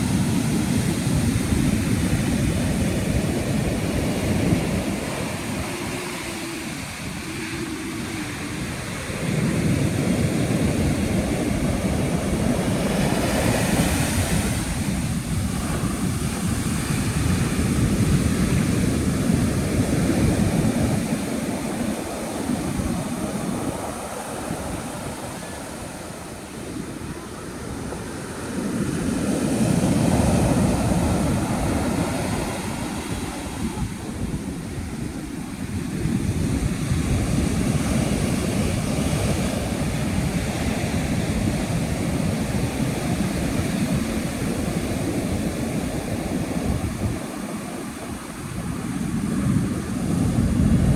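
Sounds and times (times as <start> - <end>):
surf waves breaking: 0.0 - 50.9
wind rumble on microphone: 0.0 - 50.9.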